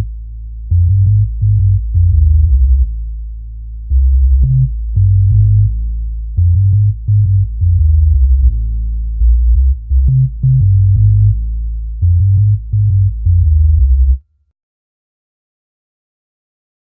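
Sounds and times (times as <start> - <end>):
bass-heavy electronic music: 0.0 - 14.2.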